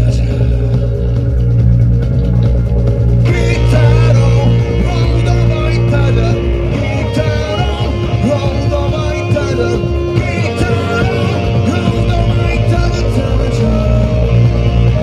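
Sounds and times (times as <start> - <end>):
lead guitar with bending notes: 0.0 - 15.0
rock band playing live: 0.0 - 15.0.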